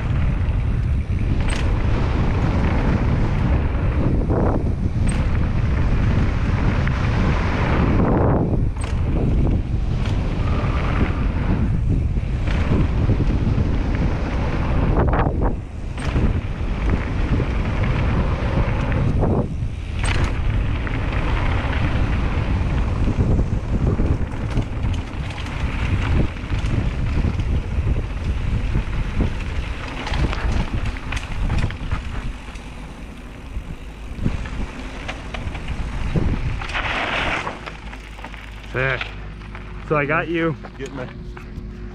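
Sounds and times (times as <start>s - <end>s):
wind on microphone: 0.0s - 37.8s
bike knocking over bumps: 0.0s - 39.9s
tyres rolling over gravel: 0.0s - 41.9s.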